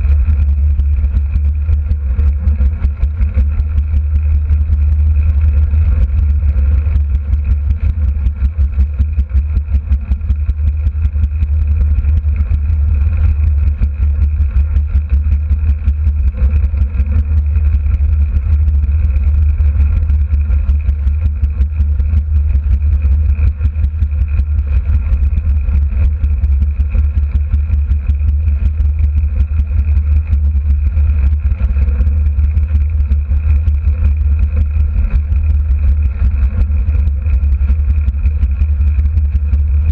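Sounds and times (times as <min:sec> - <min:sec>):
small motorbike engine running: 0:00.0 - 0:39.9
wind rumble on microphone: 0:00.0 - 0:39.9.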